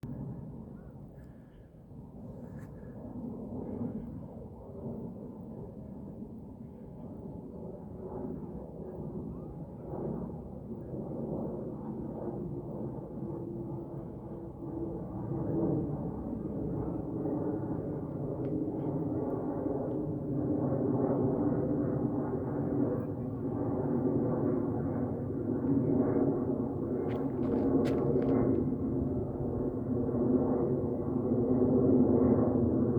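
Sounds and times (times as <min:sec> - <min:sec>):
airplane engines droning: 0:00.1 - 0:32.9.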